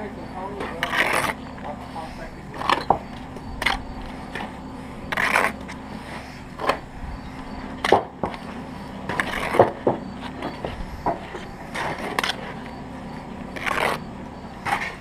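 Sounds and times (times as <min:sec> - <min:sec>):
steady low hum: 0:00.0 - 0:15.0
trowel scraping mortar: 0:00.4 - 0:06.9, 0:07.8 - 0:15.0.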